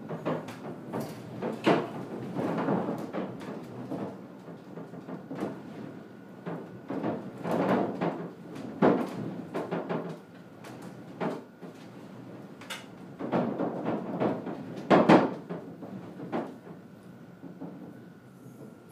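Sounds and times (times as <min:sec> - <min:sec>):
wooden roof knocking and rattling: 0:00.0 - 0:05.8, 0:06.4 - 0:12.0, 0:12.7 - 0:16.8.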